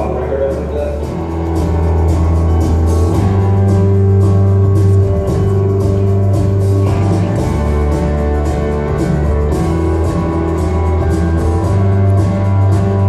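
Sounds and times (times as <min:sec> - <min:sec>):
instrumental music over sound system: 0:00.0 - 0:13.0.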